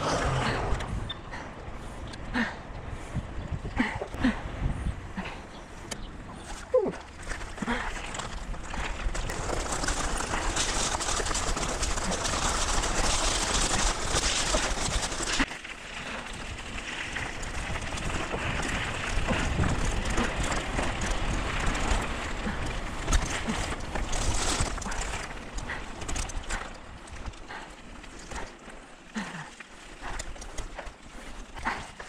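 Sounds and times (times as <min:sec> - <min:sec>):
wind rumble on microphone: 0:00.0 - 0:28.5
bike rattling: 0:00.0 - 0:32.0
bicycle tyres crunching on gravel: 0:06.2 - 0:32.0.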